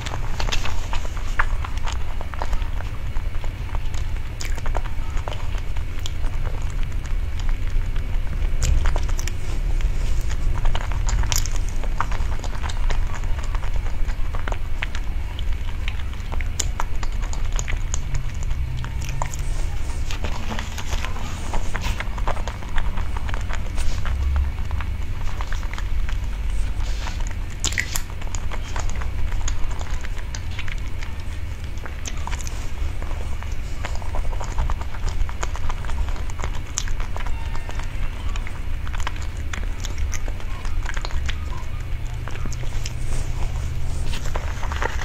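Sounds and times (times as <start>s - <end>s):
low rumble: 0.0s - 45.0s
wet chewing and mouth clicks: 0.0s - 45.0s.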